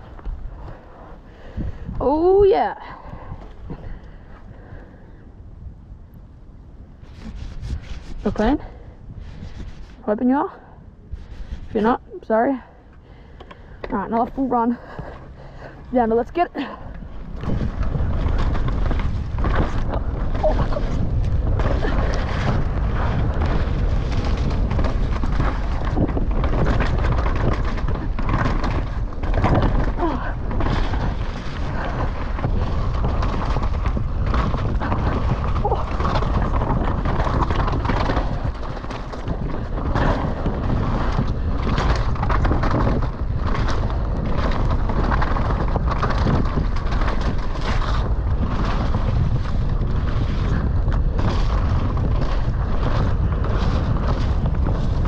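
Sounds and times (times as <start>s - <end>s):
wind rumble on microphone: 0.0s - 55.0s
bike rattling and knocking: 7.2s - 55.0s.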